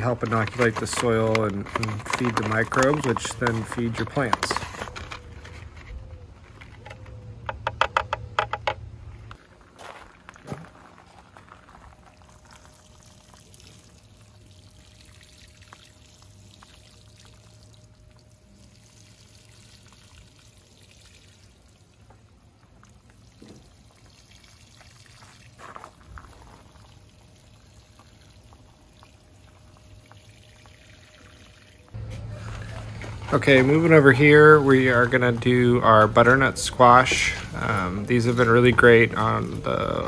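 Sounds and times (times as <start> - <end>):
watering can sprinkling on soil: 0.0 - 5.7, 9.8 - 40.0.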